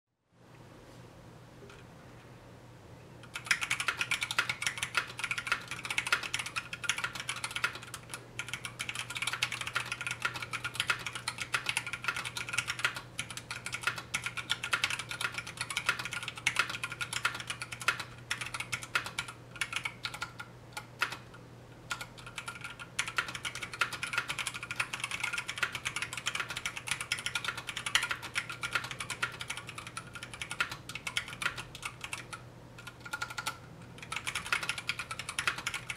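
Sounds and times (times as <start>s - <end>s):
mechanical keyboard typing: 3.2s - 35.9s.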